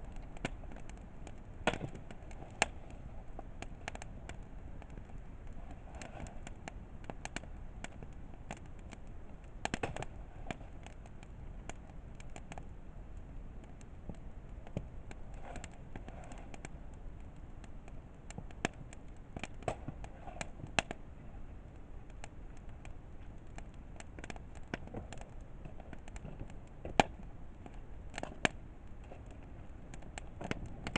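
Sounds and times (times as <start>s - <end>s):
burning firewood popping: 0.0s - 30.9s
campfire crackling: 0.0s - 30.9s.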